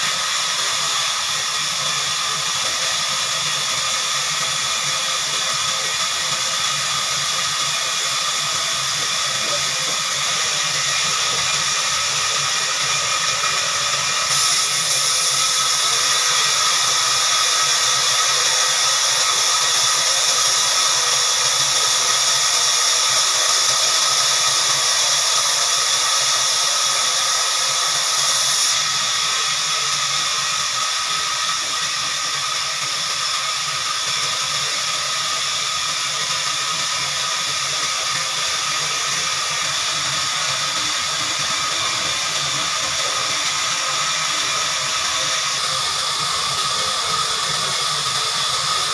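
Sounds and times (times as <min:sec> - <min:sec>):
band saw blade whining: 0:00.0 - 0:48.9.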